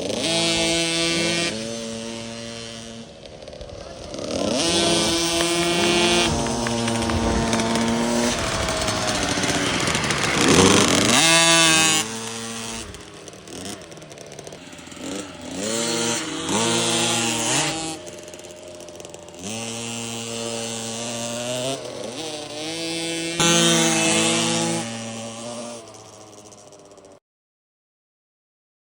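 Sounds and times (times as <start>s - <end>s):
motocross bike engine revving: 0.0s - 27.2s.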